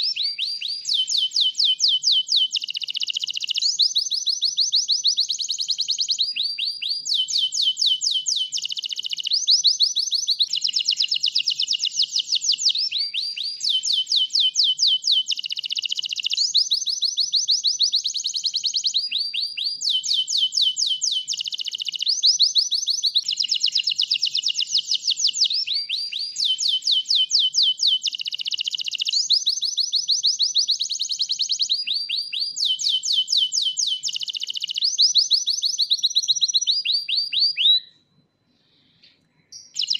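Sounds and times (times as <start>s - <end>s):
canary singing trills: 0.0s - 37.9s, 39.5s - 39.9s.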